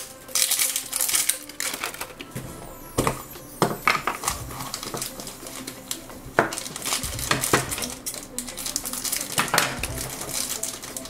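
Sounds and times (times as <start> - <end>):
scissors snipping wrapper: 0.0 - 2.3, 3.8 - 11.0
hard plastic clicks and clatters: 0.0 - 2.4, 3.0 - 11.0
plastic wrapper crinkling: 0.0 - 11.0.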